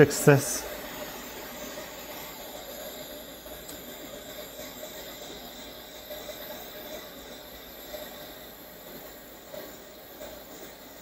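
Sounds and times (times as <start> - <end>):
hot air station hissing: 0.0 - 11.0.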